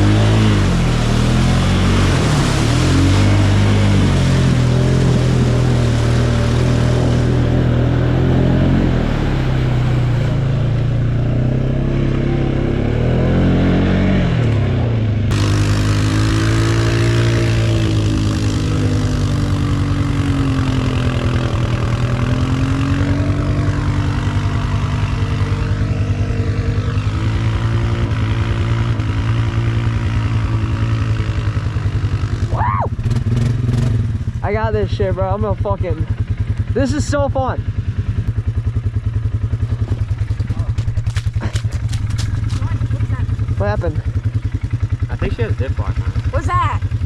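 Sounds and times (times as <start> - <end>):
atv engine revving under load: 0.0 - 34.5, 35.4 - 47.0.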